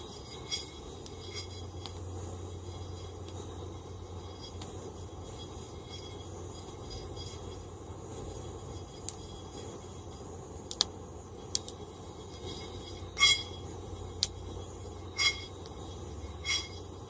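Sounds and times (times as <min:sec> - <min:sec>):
coffee beans rattling in pan: 0:00.0 - 0:10.5, 0:11.4 - 0:17.0.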